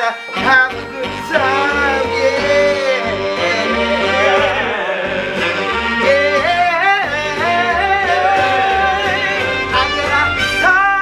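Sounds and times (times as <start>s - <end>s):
solo voice singing: 0.0s - 11.0s
pulsing bass line: 0.4s - 10.8s.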